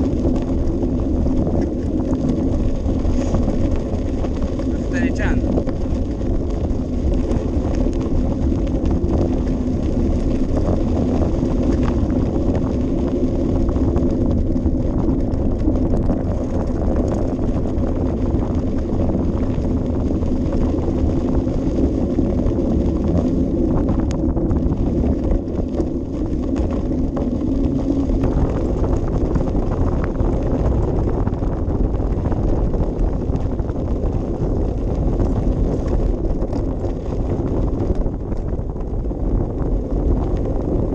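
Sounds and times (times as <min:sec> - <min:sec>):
bicycle tyres rolling: 0:00.0 - 0:40.9
wind buffeting microphone: 0:00.0 - 0:40.9.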